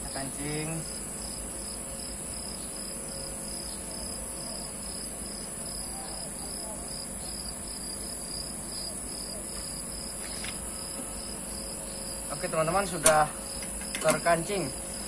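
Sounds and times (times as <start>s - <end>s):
air conditioner unit humming: 0.0s - 15.0s
insects chirping: 0.0s - 15.0s.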